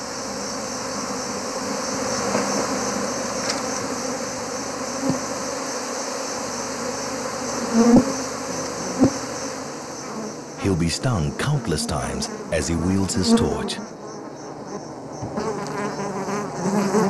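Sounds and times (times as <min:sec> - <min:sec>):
bees buzzing: 0:00.4 - 0:17.0.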